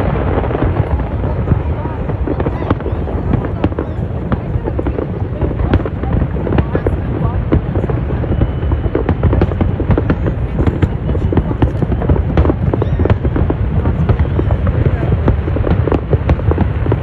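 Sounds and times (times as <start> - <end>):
fireworks popping and banging: 0.0 - 17.0.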